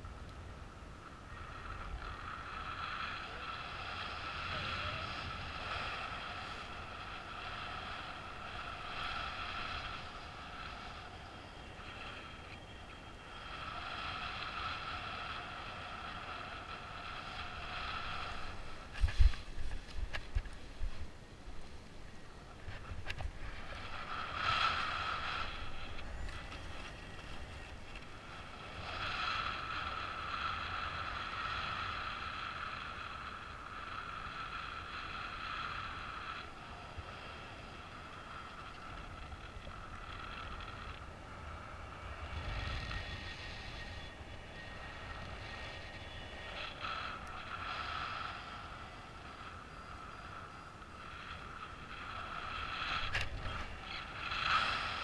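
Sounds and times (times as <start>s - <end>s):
wind rushing past microphone: 0.0s - 55.0s.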